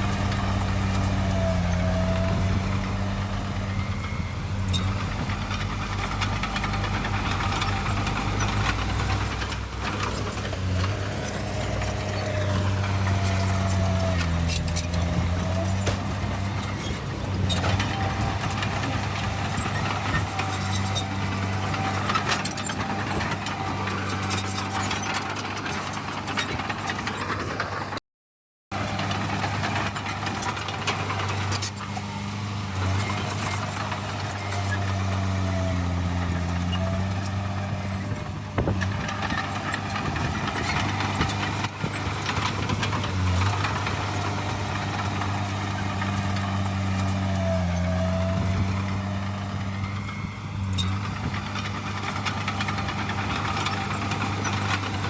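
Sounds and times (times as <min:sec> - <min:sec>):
heavy diesel machinery running: 0:00.0 - 0:28.0, 0:28.7 - 0:55.0.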